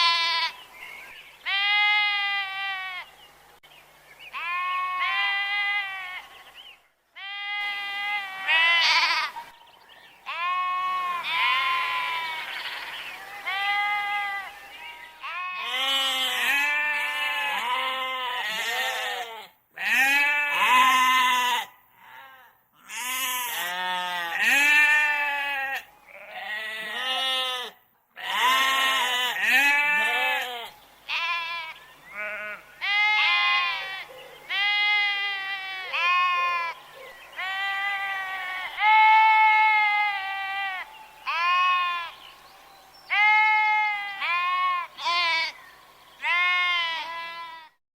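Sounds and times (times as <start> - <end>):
sheep bleating: 0.0 - 0.6, 1.4 - 3.1, 4.3 - 6.3, 7.2 - 9.5, 10.2 - 36.8, 37.4 - 42.1, 43.1 - 45.6, 46.2 - 47.8.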